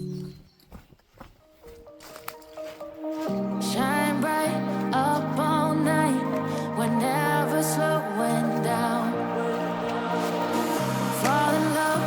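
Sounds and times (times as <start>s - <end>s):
soft pop music: 1.8s - 12.0s.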